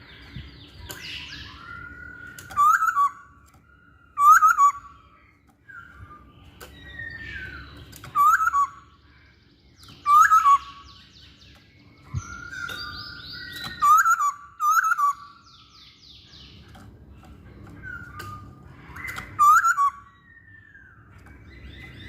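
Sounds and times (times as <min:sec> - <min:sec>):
bird singing whistled phrases: 0:00.8 - 0:05.0, 0:05.6 - 0:09.0, 0:09.8 - 0:11.4, 0:12.0 - 0:16.5, 0:17.9 - 0:22.0.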